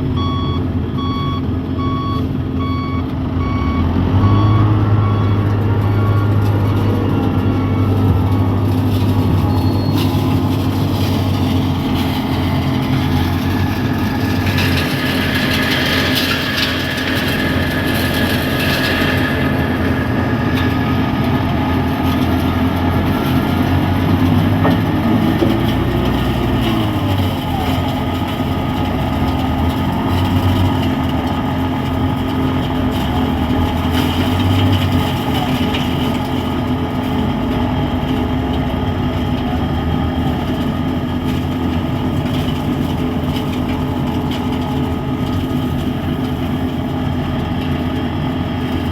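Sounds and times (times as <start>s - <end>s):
diesel machinery engine drone: 0.0s - 48.9s.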